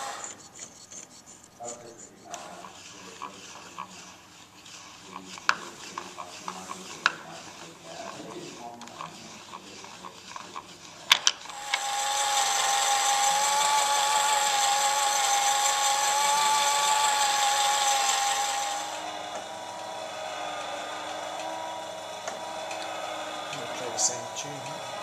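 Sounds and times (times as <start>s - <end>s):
small electric motor whining: 0.0s - 25.0s.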